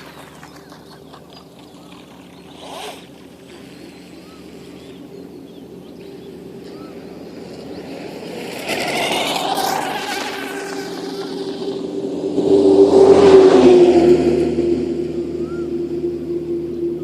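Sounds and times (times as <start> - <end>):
racing boat engine passing: 0.0 - 17.0.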